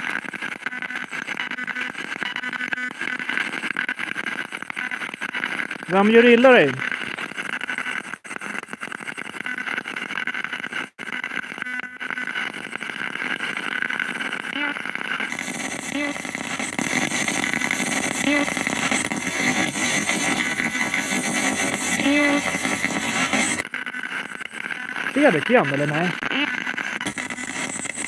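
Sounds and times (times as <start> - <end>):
choppy radio static hiss: 0.0 - 28.0
short radio blips: 0.0 - 28.0.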